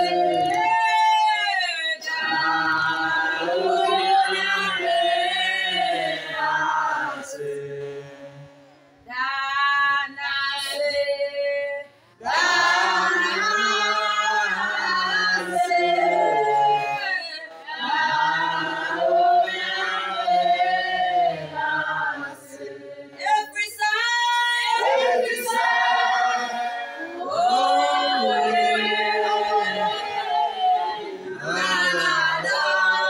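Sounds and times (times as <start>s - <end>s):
group of women singing: 0.0s - 33.0s.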